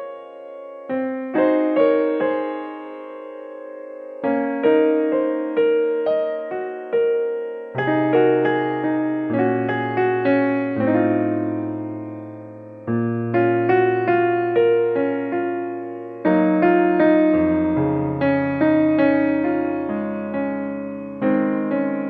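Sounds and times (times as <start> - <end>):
gentle solo piano piece: 0.0 - 22.0.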